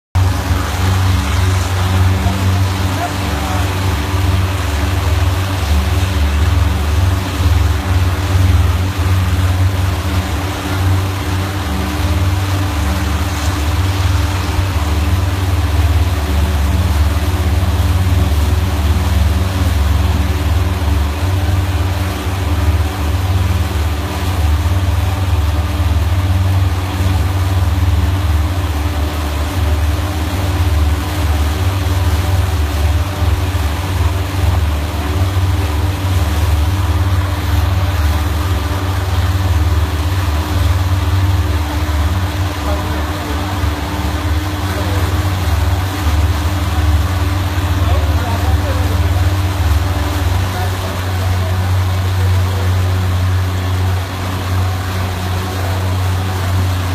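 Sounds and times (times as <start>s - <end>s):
motorboat engine rumbling: 0.0s - 56.9s
water rushing from wake: 0.2s - 56.9s.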